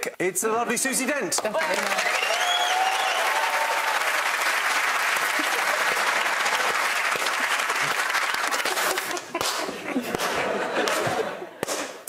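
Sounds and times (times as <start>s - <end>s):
audience applauding: 1.3s - 11.9s.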